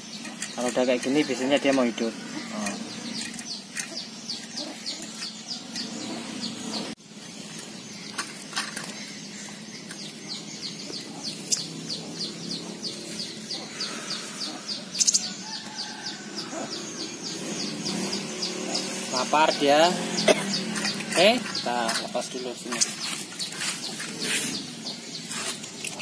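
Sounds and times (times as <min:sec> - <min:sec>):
small bird chirping: 0:00.0 - 0:26.0.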